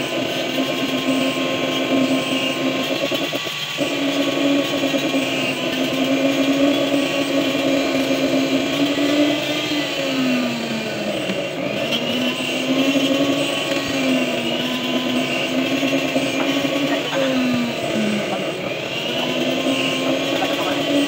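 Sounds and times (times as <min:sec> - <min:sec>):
rotary tool cutting metal: 0:00.0 - 0:21.0.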